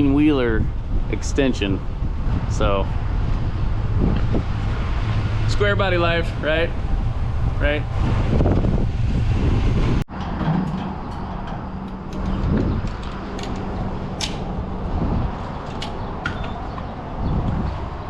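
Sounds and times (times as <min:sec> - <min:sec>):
pickup engine and road rumble: 0:00.0 - 0:18.0.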